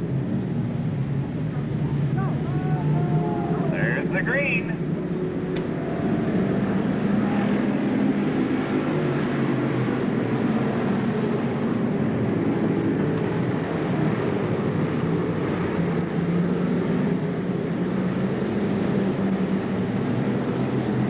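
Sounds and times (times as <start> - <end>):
racing car engines: 0.0 - 21.0.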